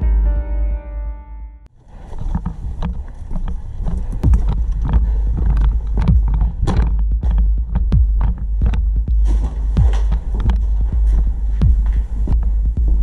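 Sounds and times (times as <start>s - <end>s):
low wind rumble: 1.7s - 13.0s
footsteps: 1.8s - 13.0s
gear knocking: 1.8s - 13.0s
microphone handling noise: 1.9s - 13.0s.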